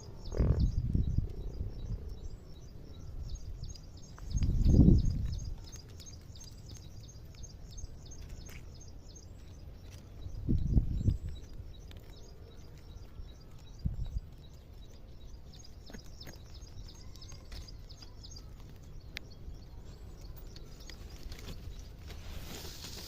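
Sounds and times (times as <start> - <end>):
low wind rumble: 0.0 - 22.8
small birds chirping: 0.0 - 23.0.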